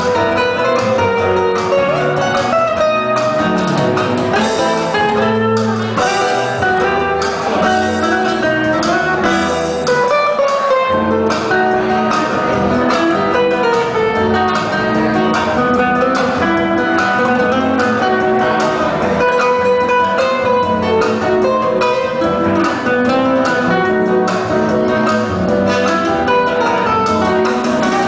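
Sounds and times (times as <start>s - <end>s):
acoustic guitars playing: 0.0s - 28.0s.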